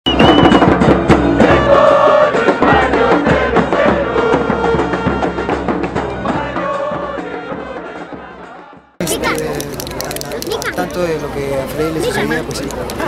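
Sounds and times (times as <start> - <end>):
music with drums and percussion: 0.1 - 11.2.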